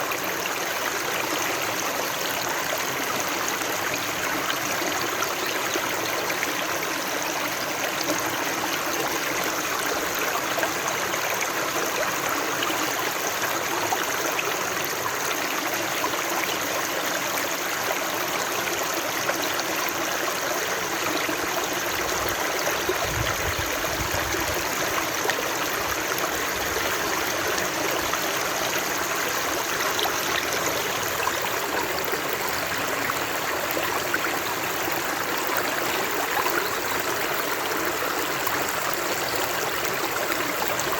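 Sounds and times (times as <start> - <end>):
running water babbling: 0.0 - 40.9.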